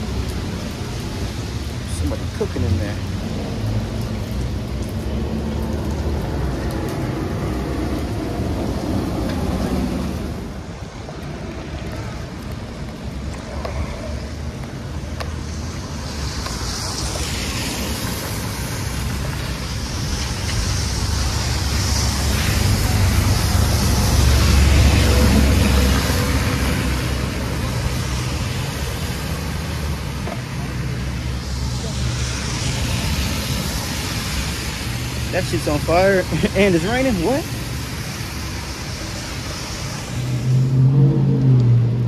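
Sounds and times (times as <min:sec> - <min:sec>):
rain and wet street hiss: 0:00.0 - 0:42.0
road traffic rumble: 0:00.0 - 0:42.0.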